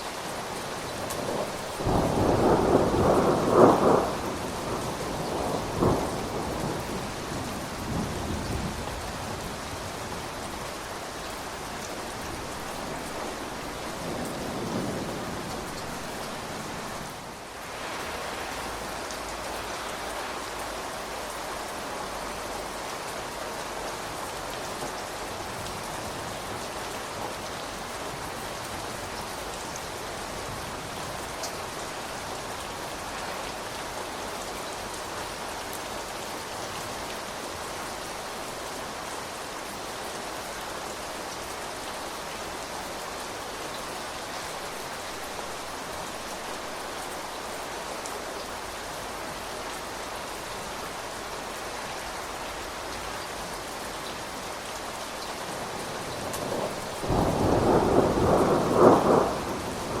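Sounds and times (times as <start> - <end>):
rain pattering: 0.0 - 60.0.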